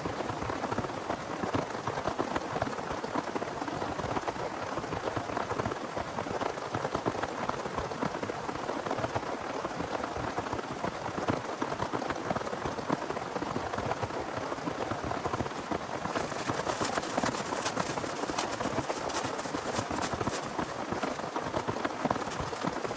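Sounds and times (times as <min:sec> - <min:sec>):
rain patter: 0:00.1 - 0:22.9.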